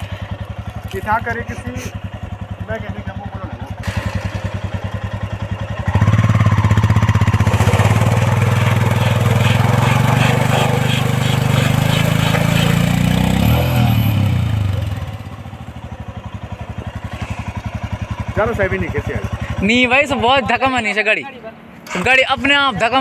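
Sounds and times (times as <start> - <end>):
motorcycle engine revving and idling: 0.0 - 20.8.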